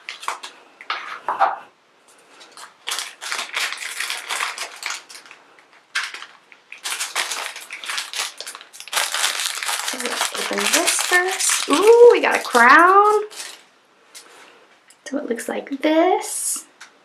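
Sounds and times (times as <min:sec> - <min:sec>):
plastic wrapper crinkling: 0:00.0 - 0:01.5, 0:02.1 - 0:14.4.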